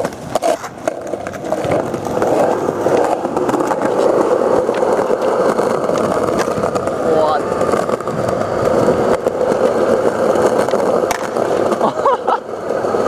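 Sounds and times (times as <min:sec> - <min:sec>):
skateboard wheels rumbling: 0:00.0 - 0:13.0.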